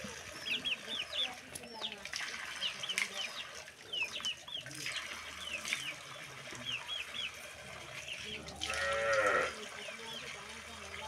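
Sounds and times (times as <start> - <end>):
small birds chirping: 0.0 - 8.9, 9.6 - 11.0.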